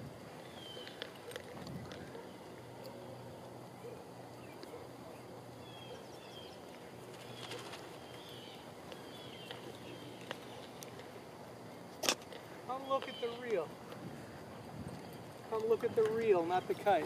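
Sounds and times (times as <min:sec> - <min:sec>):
birds chirping: 0:00.0 - 0:17.0
steady background hum: 0:00.0 - 0:17.0.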